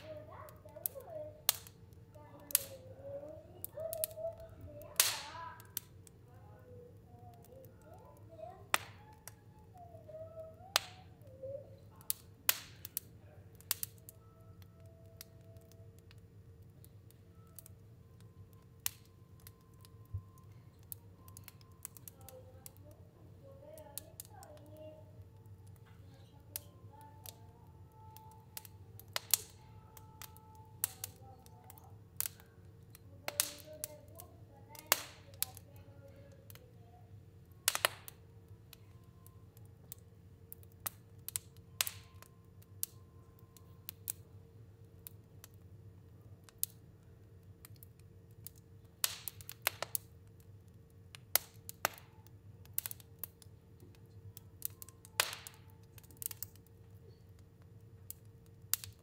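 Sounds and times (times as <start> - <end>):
fire crackling and popping: 0.0 - 59.0
low steady hum: 0.0 - 59.0.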